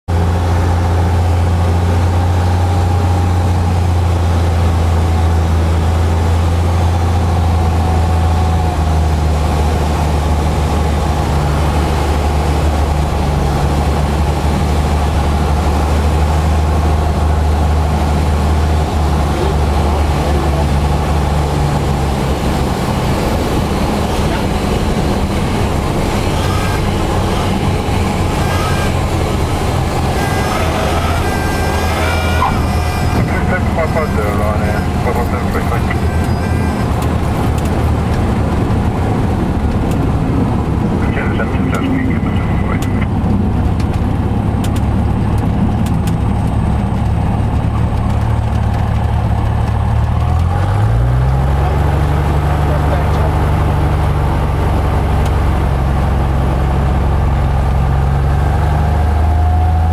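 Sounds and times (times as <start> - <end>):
propeller airplane engine droning: 0.1 - 59.9.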